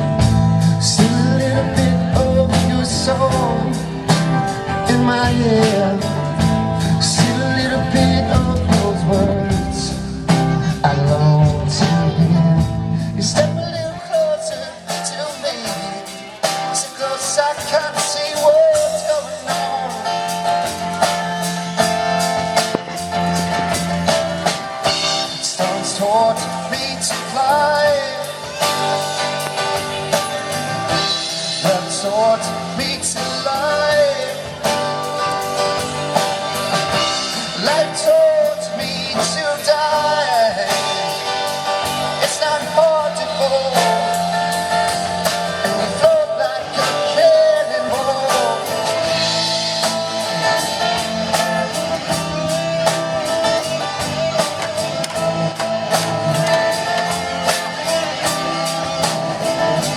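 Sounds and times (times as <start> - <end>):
rock band music: 0.0 - 59.9.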